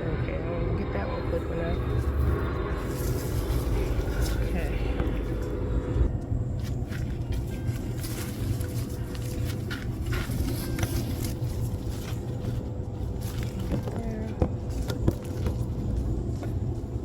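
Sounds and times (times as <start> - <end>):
steady low rumble: 0.0 - 17.0
plants rustling: 1.8 - 17.0.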